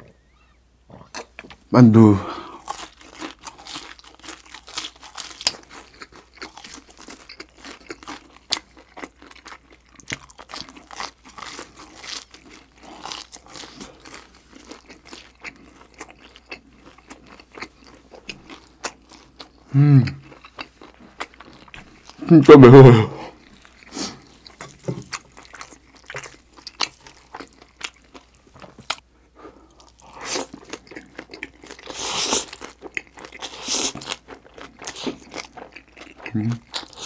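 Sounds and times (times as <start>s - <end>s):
crunchy chewing: 2.6s - 22.3s, 23.3s - 29.0s, 29.6s - 37.0s.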